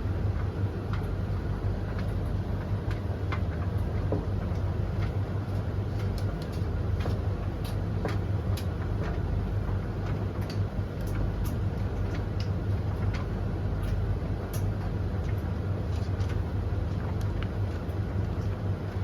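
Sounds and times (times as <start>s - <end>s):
tumble dryers humming: 0.0s - 19.0s.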